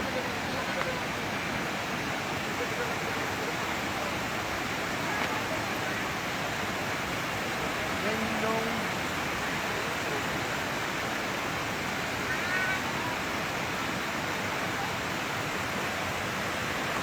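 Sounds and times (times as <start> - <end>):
rushing flowing water: 0.0 - 17.0.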